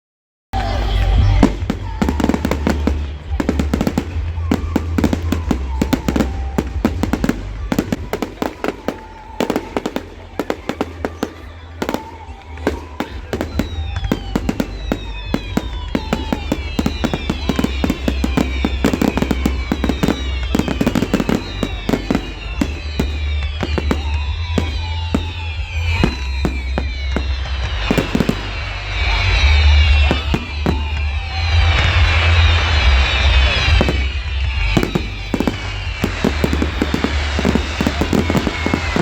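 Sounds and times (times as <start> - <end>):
fireworks bangs and crackles: 0.6 - 39.0
music through loudspeakers: 0.6 - 39.0
whistles falling in pitch: 0.6 - 39.0.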